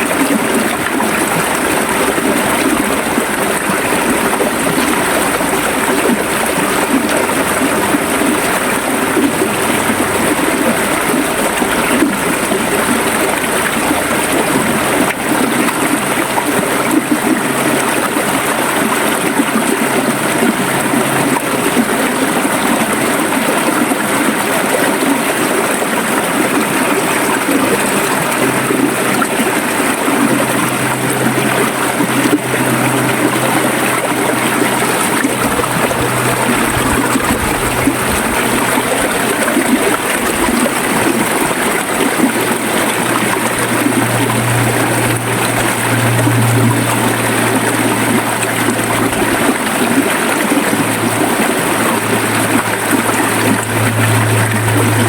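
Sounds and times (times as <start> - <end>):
river water over rocks: 0.0 - 55.0.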